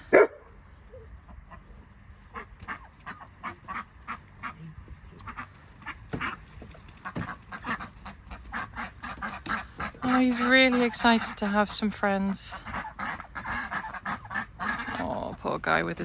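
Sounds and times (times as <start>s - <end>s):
ducks quacking: 1.2s - 16.0s.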